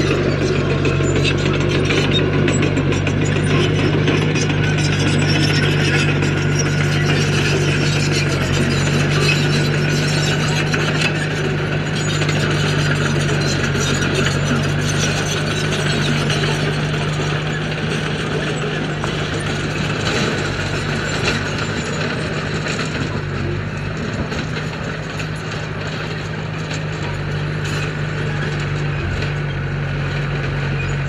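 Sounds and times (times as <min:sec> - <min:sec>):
heavy diesel machine running: 0:00.0 - 0:31.0.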